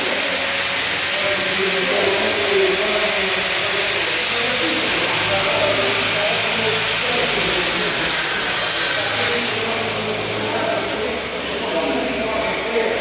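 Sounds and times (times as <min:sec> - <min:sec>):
faint voices: 0:00.0 - 0:13.0
steady loud hiss: 0:00.0 - 0:13.0.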